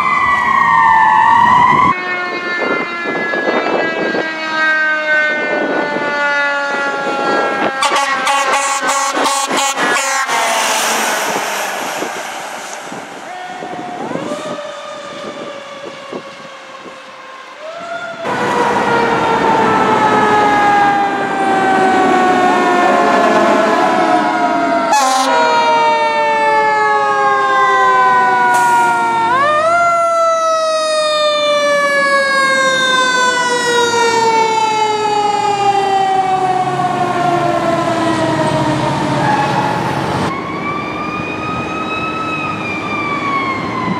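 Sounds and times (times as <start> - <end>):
mechanical siren wailing: 0.0 - 43.9.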